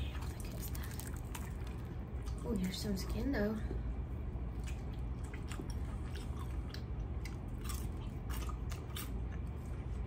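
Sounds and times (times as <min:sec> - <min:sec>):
close chewing: 0:00.0 - 0:03.1, 0:04.4 - 0:10.0
low steady hum: 0:00.0 - 0:10.0.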